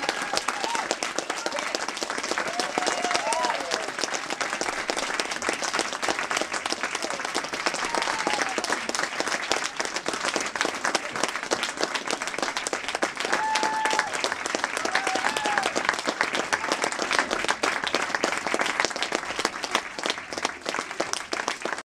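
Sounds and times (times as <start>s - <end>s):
audience applauding: 0.0s - 21.8s.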